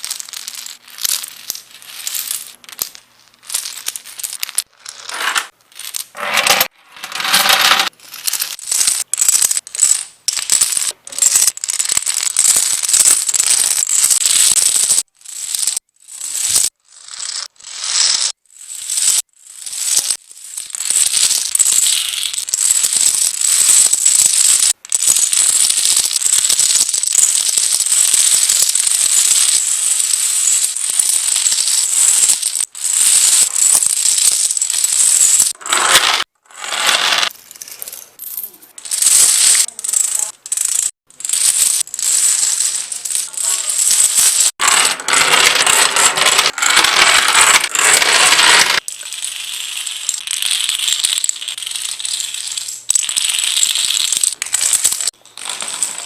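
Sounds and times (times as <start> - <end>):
dominoes toppling: 0.0 - 56.0.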